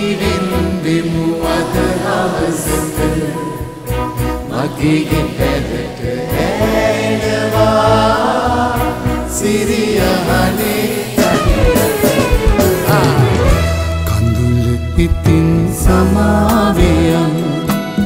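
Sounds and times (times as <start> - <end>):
band and orchestra playing ballad: 0.0 - 18.0
people singing: 0.0 - 18.0.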